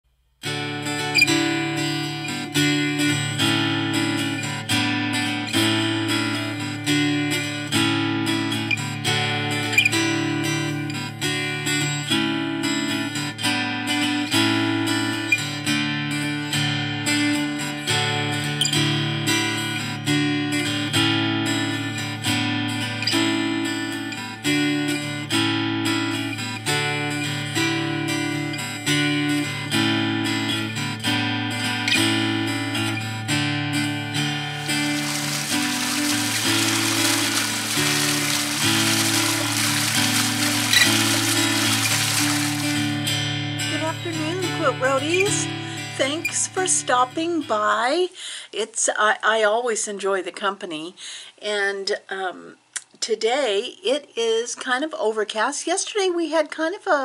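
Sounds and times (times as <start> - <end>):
acoustic guitar playing: 0.4 - 47.6.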